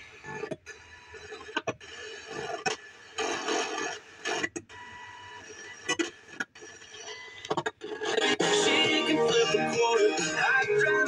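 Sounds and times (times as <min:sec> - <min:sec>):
crackly radio static: 0:00.0 - 0:11.0.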